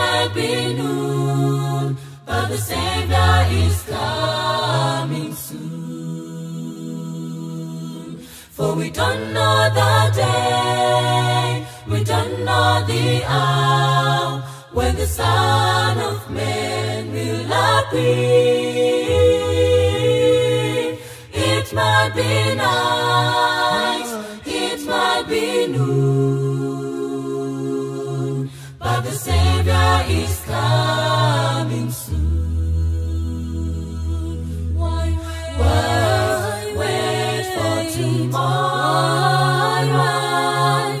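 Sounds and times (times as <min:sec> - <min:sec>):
a cappella group singing in harmony: 0:00.0 - 0:41.0.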